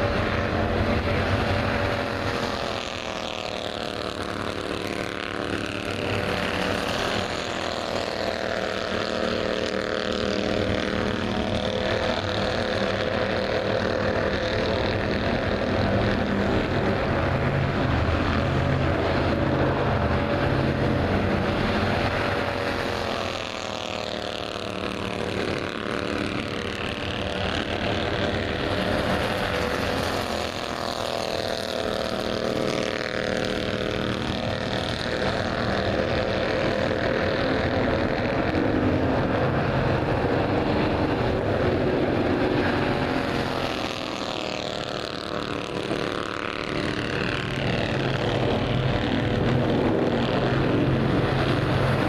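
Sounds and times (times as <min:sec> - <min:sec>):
race car engine: 0:00.0 - 0:52.0.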